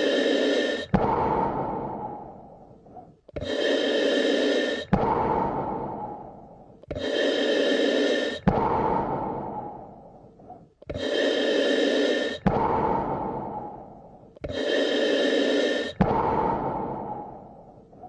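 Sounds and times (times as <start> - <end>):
person breathing: 0.0 - 18.0.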